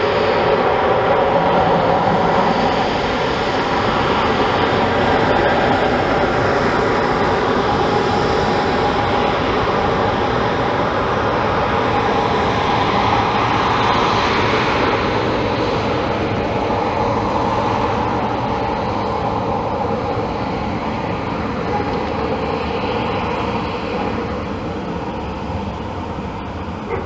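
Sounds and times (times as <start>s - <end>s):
jet engine roaring: 0.0s - 27.0s.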